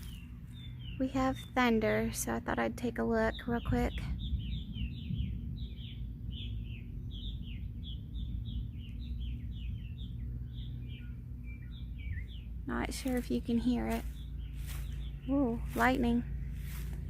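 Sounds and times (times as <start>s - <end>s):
birds chirping: 0.0s - 17.0s
low steady rumble: 0.0s - 17.0s.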